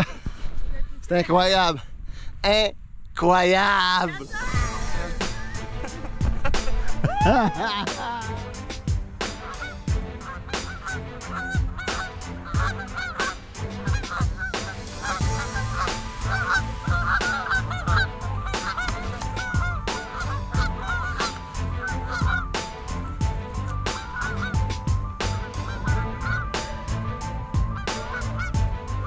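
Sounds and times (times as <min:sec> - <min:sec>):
geese honking: 0:04.2 - 0:29.0.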